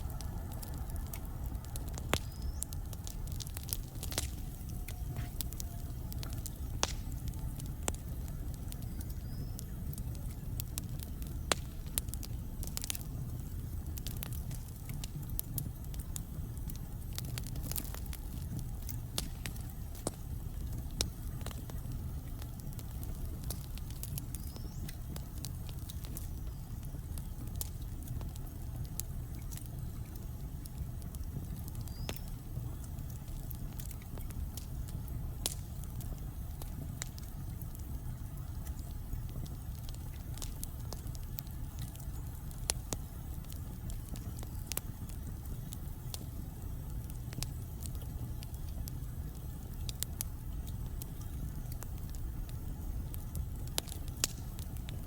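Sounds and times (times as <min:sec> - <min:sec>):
burning logs crackling and popping: 0:00.0 - 0:55.0
fire flames rumbling: 0:00.0 - 0:55.0.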